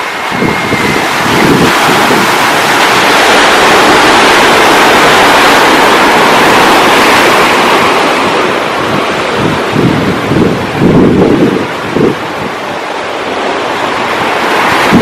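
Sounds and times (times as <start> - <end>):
sea waves breaking: 0.0 - 15.0
wind rumbling on microphone: 0.0 - 15.0.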